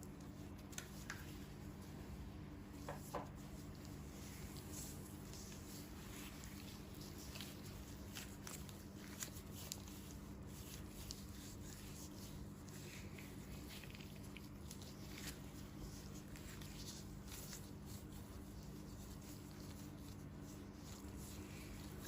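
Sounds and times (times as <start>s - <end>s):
crackly scratches of dry skin: 0.0s - 22.0s
steady low hum: 0.0s - 22.0s.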